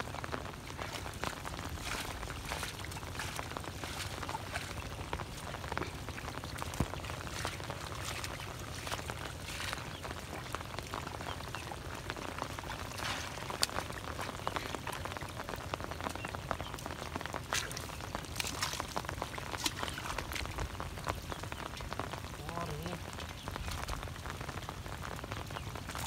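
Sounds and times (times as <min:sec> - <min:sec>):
muddy water splashing: 0:00.0 - 0:26.0
rain patter: 0:00.0 - 0:26.0.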